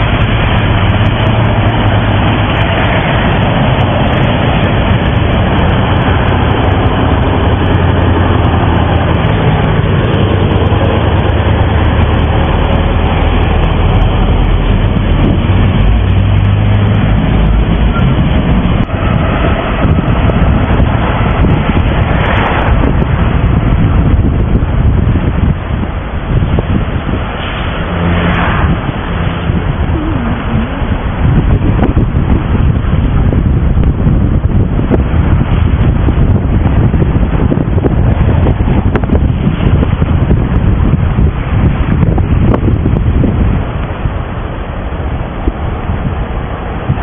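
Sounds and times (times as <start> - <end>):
metro train rumbling: 0.0 - 47.0.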